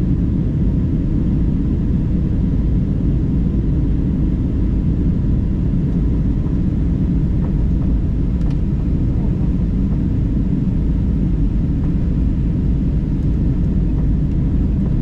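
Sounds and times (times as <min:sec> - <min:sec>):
airliner engine rumble in cabin: 0:00.0 - 0:15.0.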